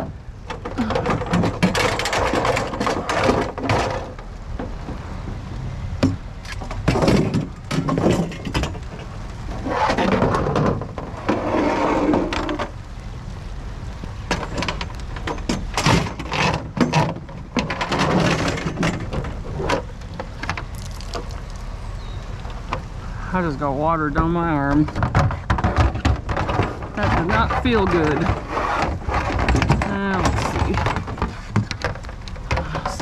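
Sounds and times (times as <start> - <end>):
items knocking and clattering: 0.0 - 5.0, 6.0 - 9.1, 9.9 - 12.7, 14.3 - 21.6, 24.6 - 33.0
steady low rumble: 0.0 - 33.0.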